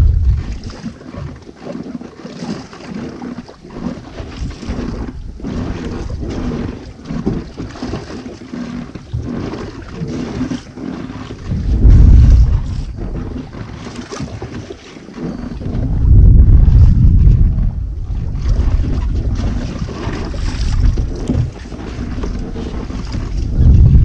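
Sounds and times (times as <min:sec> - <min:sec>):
wind buffeting microphone: 0:00.0 - 0:01.5, 0:03.2 - 0:24.0.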